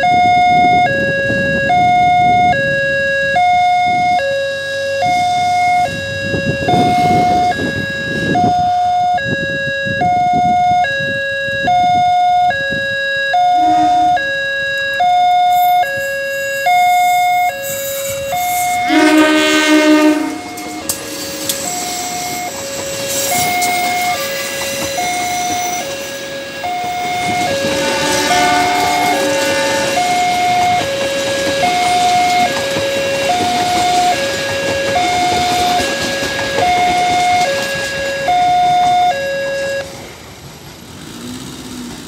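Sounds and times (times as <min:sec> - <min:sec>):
train rumbling on rails: 0:00.0 - 0:13.0, 0:13.6 - 0:42.0
level crossing two-tone alarm: 0:00.0 - 0:39.8
train horn blasts: 0:00.0 - 0:39.9.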